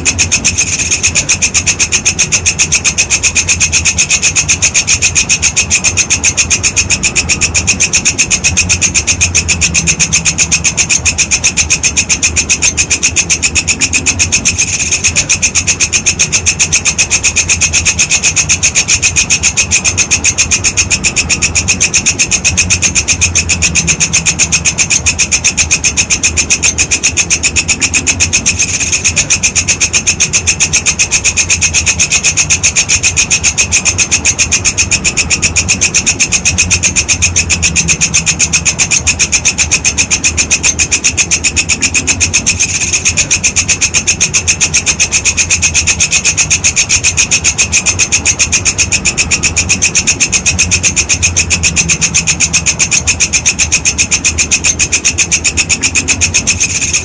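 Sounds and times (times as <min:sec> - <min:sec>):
insect rasping trill: 0:00.0 - 0:57.0.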